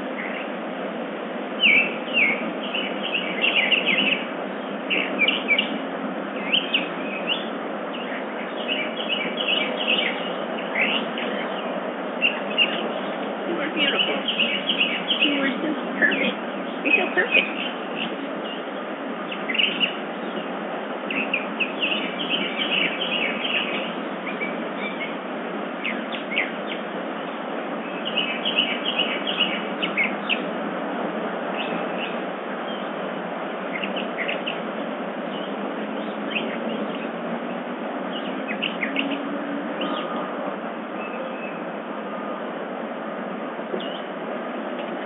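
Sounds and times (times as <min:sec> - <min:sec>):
birds chirping: 0:00.0 - 0:45.0
steady background hiss: 0:00.0 - 0:45.0.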